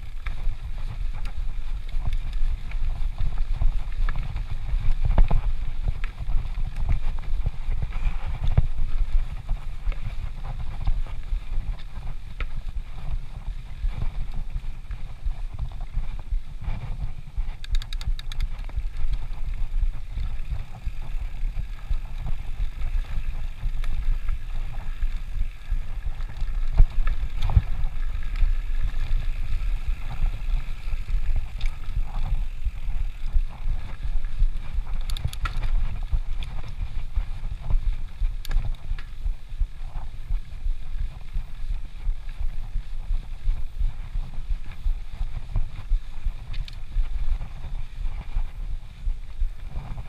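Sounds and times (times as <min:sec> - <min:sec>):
bike rattling over bumps: 0:00.0 - 0:49.0
bike tyres rumbling on dirt: 0:00.0 - 0:50.0
wind buffeting microphone: 0:00.0 - 0:50.0.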